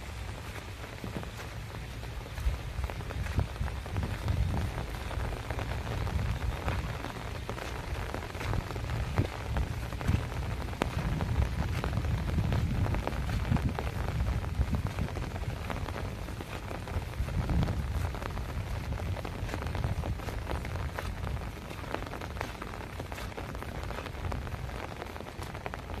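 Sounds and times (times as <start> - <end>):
heavy rain falling: 0.0 - 26.0
raindrop taps close by: 0.0 - 26.0.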